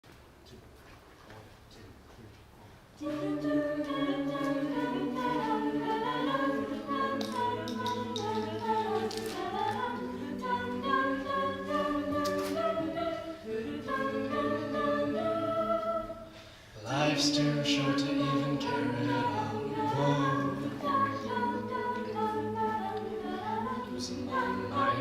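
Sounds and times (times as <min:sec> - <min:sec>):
a cappella vocal ensemble: 0:02.9 - 0:25.0.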